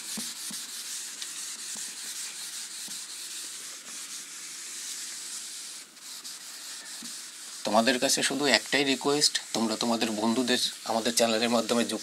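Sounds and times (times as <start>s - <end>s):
duster rubbing on whiteboard: 0.0s - 12.0s.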